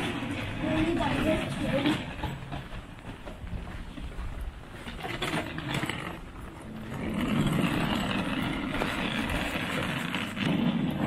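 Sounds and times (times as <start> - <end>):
suitcase wheels rattling over asphalt: 0.0 - 11.0.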